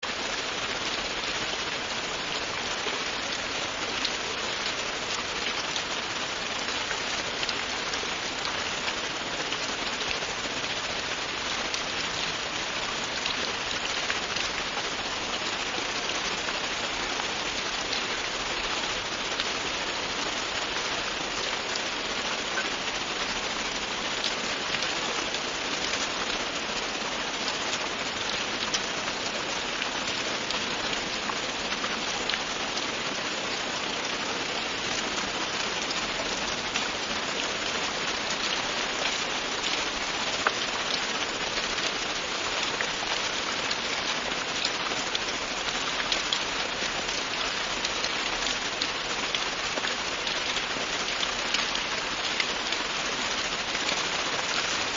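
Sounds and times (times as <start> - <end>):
rain falling on a surface: 0.0 - 54.9.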